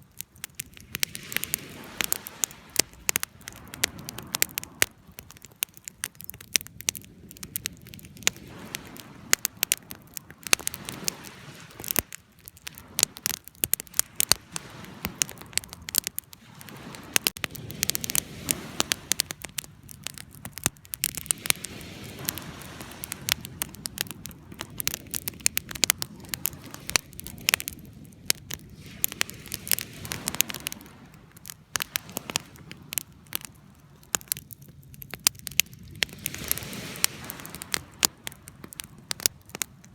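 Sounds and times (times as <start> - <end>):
burning logs crackling and popping: 0.0 - 39.9
campfire flame rushing: 0.0 - 39.9.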